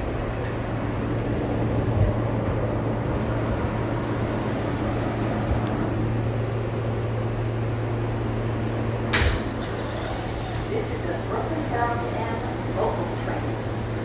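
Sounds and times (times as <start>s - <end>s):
subway car hum and rail noise: 0.0s - 14.0s.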